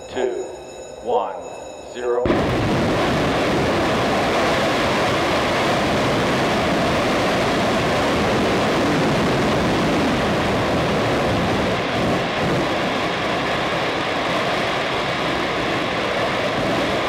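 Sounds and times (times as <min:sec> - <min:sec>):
rocket motor exhaust rushing: 0:02.3 - 0:17.0.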